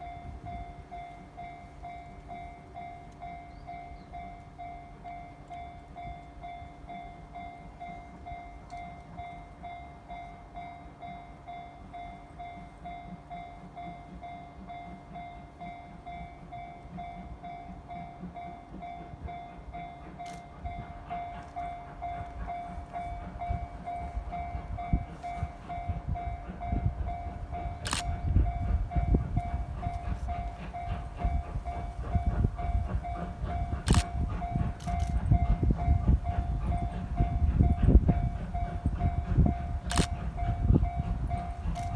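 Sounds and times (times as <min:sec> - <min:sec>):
level-crossing bell clanging: 0:00.0 - 0:41.9
steam train rumble: 0:00.0 - 0:41.9.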